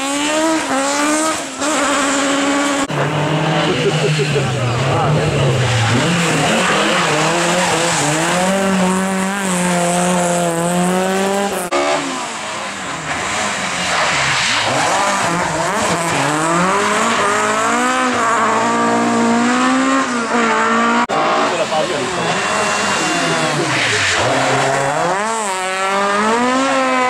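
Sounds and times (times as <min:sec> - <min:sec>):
car engine revving hard: 0:00.0 - 0:27.0.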